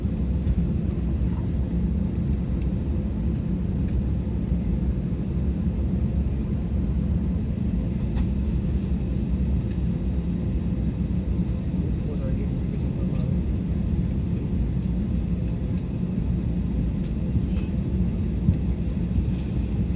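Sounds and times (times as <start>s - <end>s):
airliner cabin rumble: 0.0s - 19.9s.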